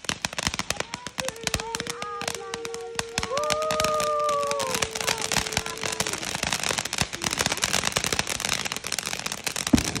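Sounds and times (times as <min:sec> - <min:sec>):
firework sparks crackling: 0:00.0 - 0:10.0.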